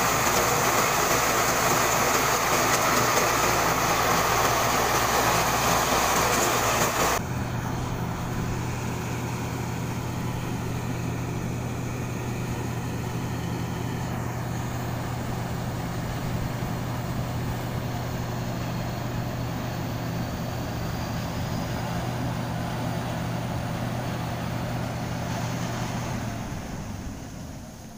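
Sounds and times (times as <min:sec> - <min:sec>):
combine harvester engine running: 0:00.0 - 0:27.9.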